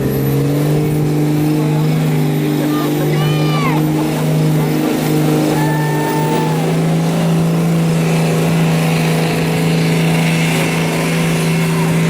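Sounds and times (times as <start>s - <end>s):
diesel truck engine running hard: 0.0s - 12.0s.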